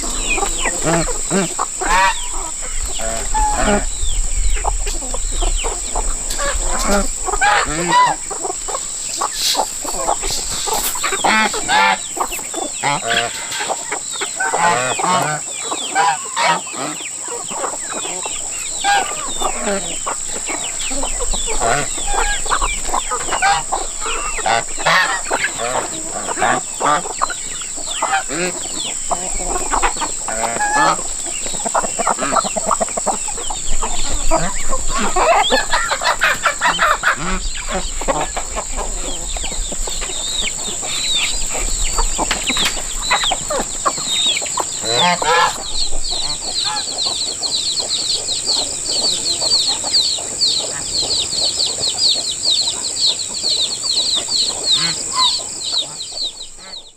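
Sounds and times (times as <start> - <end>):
high-pitched hiss: 0.0 - 56.7
chickens clucking: 0.0 - 56.9.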